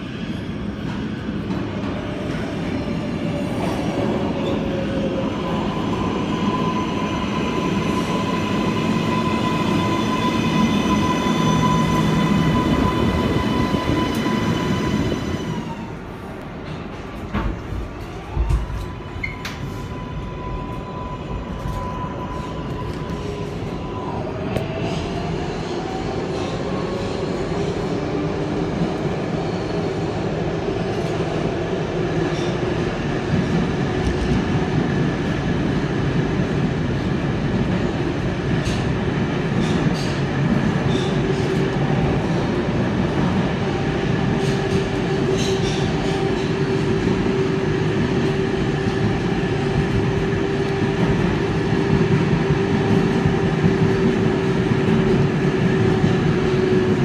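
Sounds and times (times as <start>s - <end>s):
subway wheels rumbling on rails: 0.0s - 57.0s.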